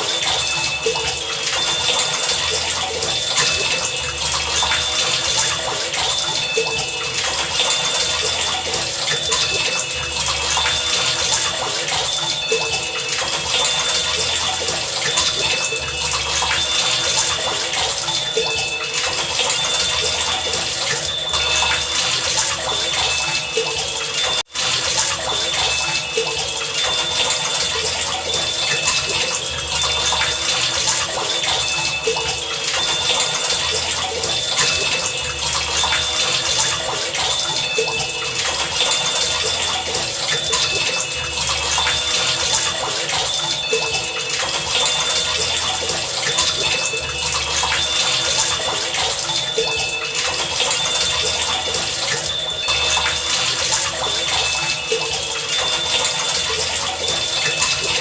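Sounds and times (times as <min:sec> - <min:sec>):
faint high pinging tones: 0:00.0 - 0:58.0.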